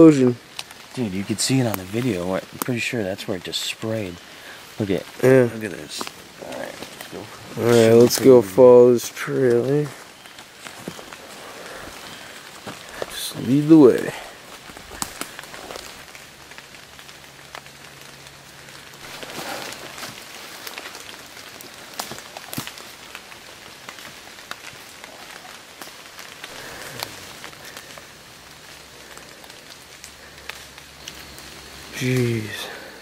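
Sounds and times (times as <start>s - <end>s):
twigs snapping: 0.0s - 2.8s, 5.0s - 8.4s, 9.1s - 32.9s
footsteps crunching through leaves: 4.2s - 33.0s.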